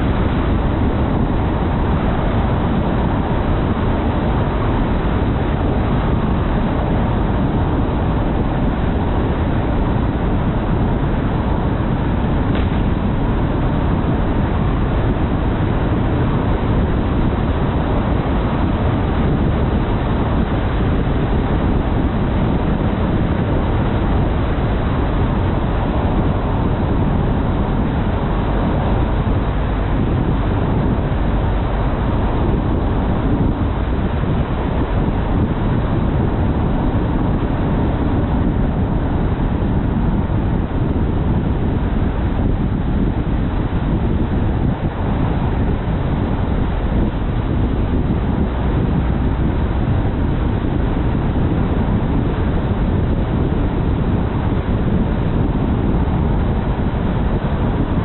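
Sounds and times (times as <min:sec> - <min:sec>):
car road noise: 0:00.0 - 0:58.0.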